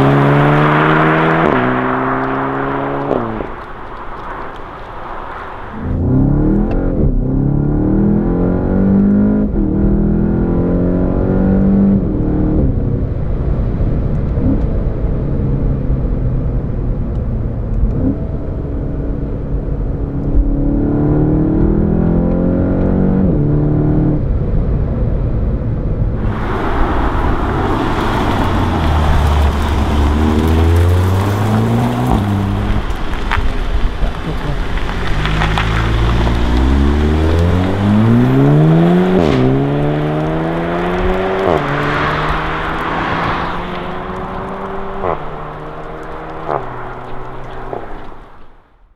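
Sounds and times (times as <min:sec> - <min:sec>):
car engine accelerating: 0:00.0 - 0:04.8, 0:05.6 - 0:48.9
tyre and wind noise: 0:00.0 - 0:48.7.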